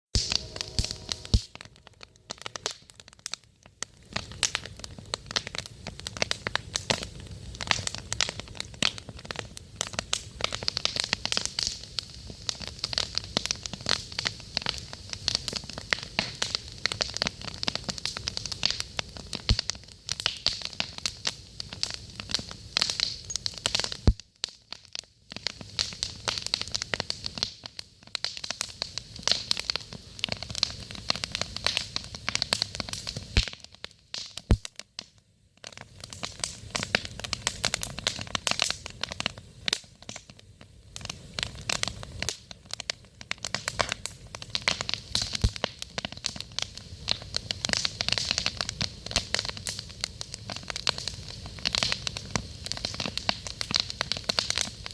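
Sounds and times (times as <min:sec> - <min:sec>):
campfire crackling: 0:00.1 - 0:54.9
sharp pops of burning wood: 0:00.2 - 0:54.9.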